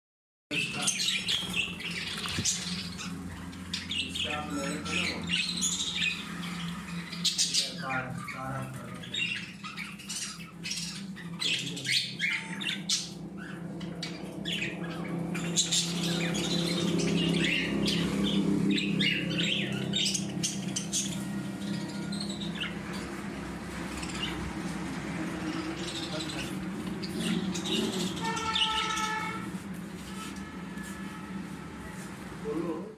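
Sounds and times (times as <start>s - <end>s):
birds chirping and squawking: 0.5s - 32.9s
steady low hum: 0.6s - 28.2s.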